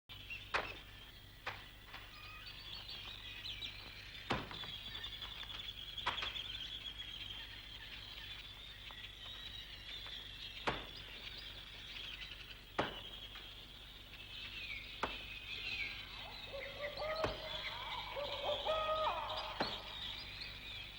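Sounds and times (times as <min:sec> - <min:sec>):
birds chirping: 0:00.1 - 0:20.9
falling whistled bird calls: 0:00.1 - 0:20.9.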